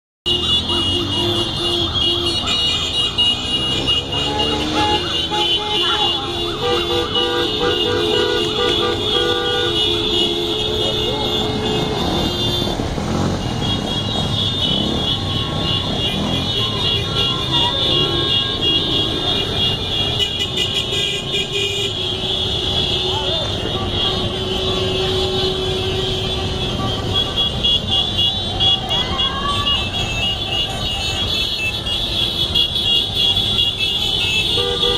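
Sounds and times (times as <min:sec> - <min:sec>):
horns honking: 0:00.2 - 0:34.9
traffic din: 0:00.2 - 0:34.9
motorcycle engines passing: 0:00.3 - 0:34.9
voices: 0:00.4 - 0:34.5.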